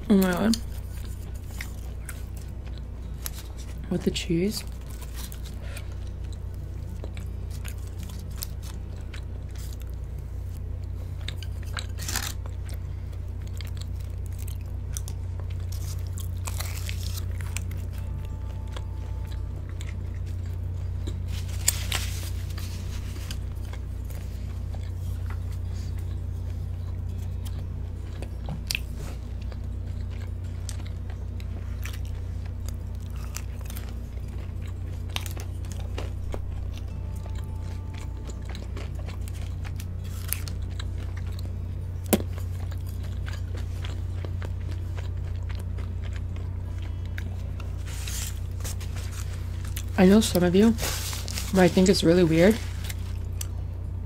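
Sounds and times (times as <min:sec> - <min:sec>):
biting and chewing crispy chicken: 0:00.0 - 0:54.0
low hum: 0:00.0 - 0:54.0.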